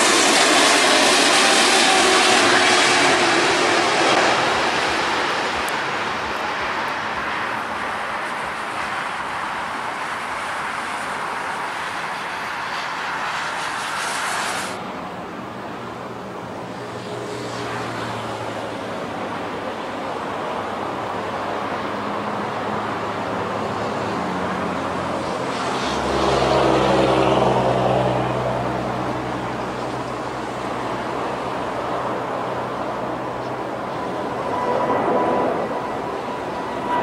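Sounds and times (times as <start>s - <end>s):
distant jet engine noise: 0.0s - 37.0s
jet airliner passing low: 0.0s - 37.0s.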